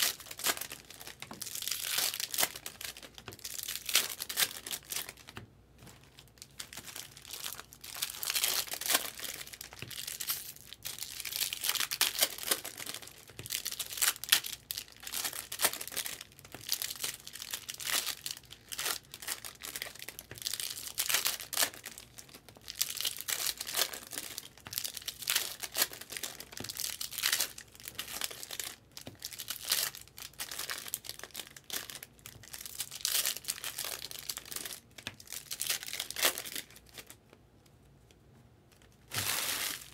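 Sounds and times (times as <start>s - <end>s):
foil wrappers crinkling and tearing: 0.0s - 37.2s, 39.0s - 39.9s.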